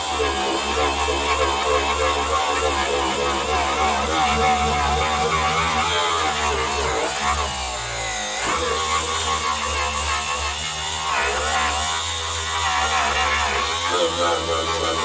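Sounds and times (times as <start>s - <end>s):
angle grinder on metal: 0.0s - 15.0s.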